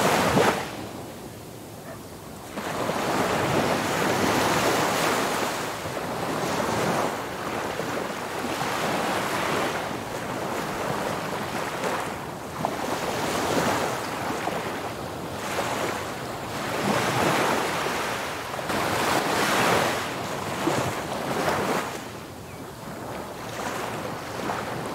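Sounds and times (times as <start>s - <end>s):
sea surf on sandy beach: 0.0s - 24.9s.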